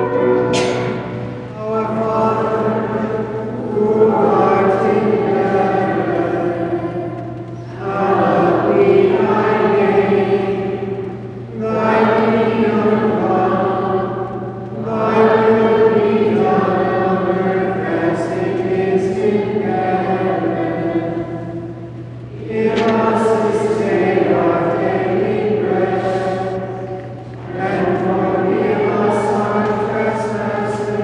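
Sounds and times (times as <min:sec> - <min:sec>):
children's choir singing: 0:00.0 - 0:31.0.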